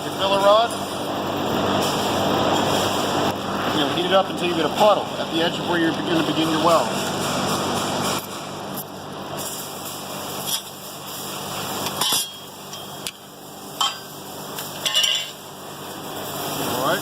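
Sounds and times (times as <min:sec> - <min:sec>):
torch flame hissing: 0:00.1 - 0:17.0.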